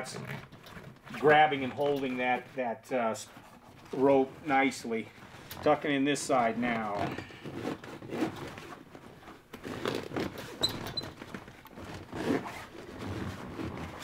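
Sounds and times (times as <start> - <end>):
cloth rubbing and scraping: 0.0 - 14.0.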